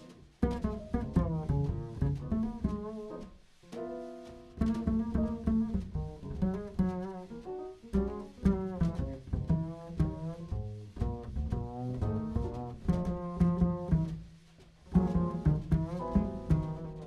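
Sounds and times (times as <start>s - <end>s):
double bass plucked jazz line: 0.0s - 17.0s.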